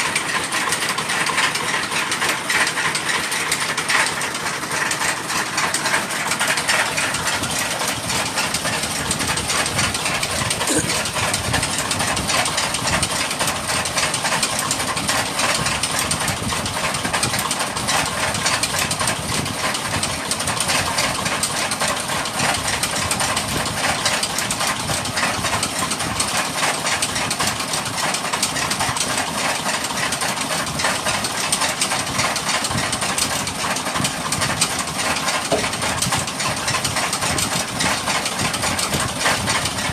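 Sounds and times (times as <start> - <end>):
engine running: 0.0 - 39.9
rapid knocking rattle: 0.0 - 39.9.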